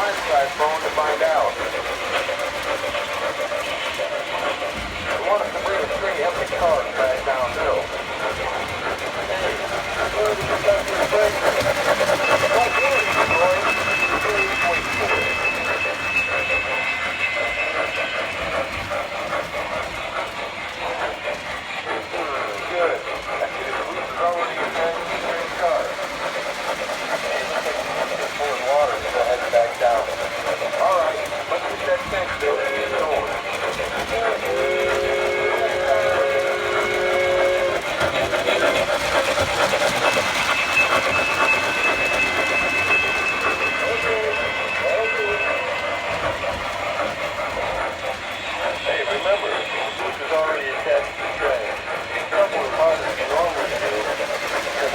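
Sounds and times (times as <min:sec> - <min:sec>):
model train rolling on track: 0:00.0 - 0:54.9
wheels clicking on rails: 0:00.0 - 0:54.9.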